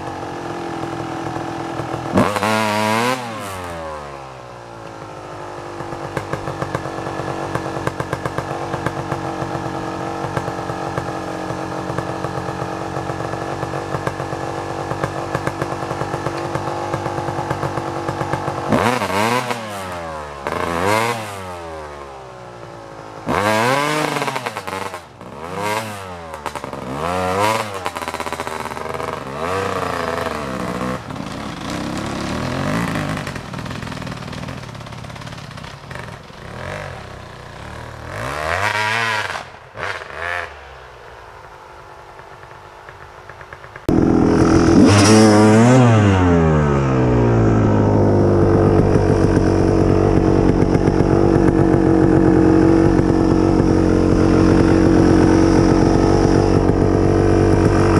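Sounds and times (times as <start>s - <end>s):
dirt bike engine revving: 0.0s - 40.9s, 43.8s - 57.9s.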